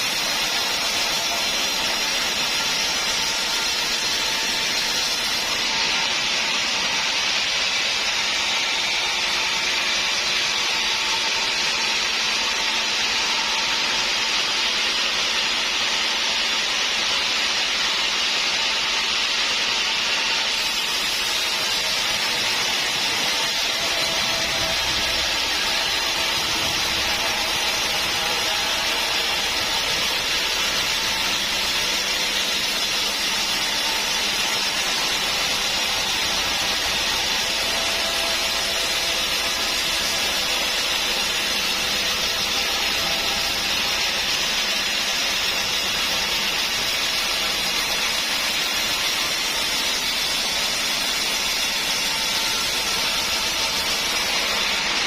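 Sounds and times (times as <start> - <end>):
saw cutting through wood: 0.0 - 55.0.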